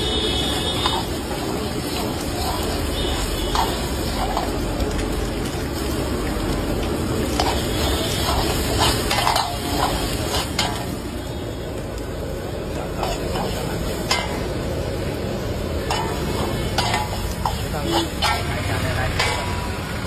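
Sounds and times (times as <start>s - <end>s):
metal ladle scraping a wok: 0.2s - 11.2s, 12.8s - 19.8s.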